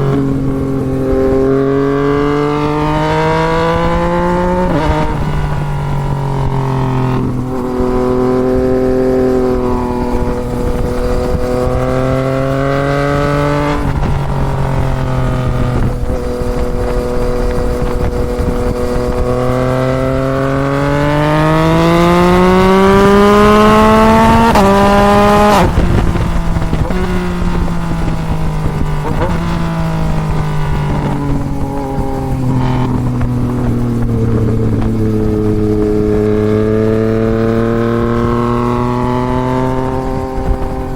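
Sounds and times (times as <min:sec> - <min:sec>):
motorcycle engine revving: 0:00.0 - 0:40.9
wind rumble: 0:00.0 - 0:40.9.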